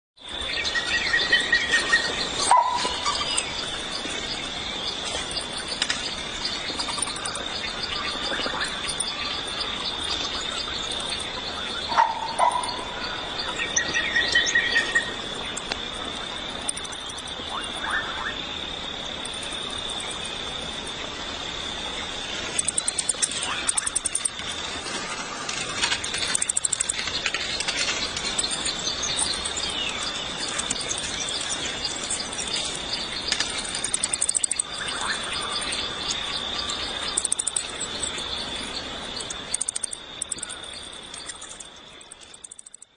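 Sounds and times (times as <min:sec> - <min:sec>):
high-pitched insect drone: 0:00.2 - 0:42.9
high chattering bird calls: 0:00.3 - 0:18.4, 0:21.8 - 0:42.8
bird trills and calls: 0:00.4 - 0:18.4, 0:22.5 - 0:24.5, 0:25.4 - 0:42.8.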